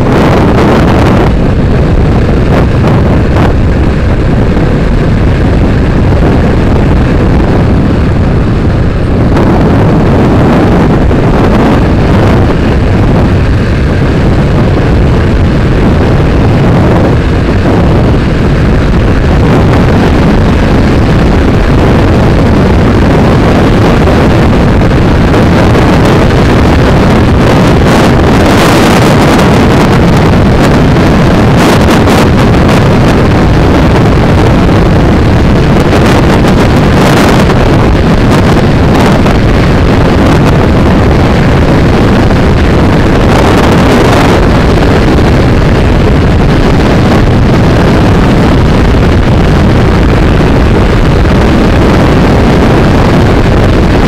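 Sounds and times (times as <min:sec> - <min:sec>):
motorcycle engine drone: 0:00.0 - 0:54.0
wind buffeting on microphone: 0:00.0 - 0:54.0.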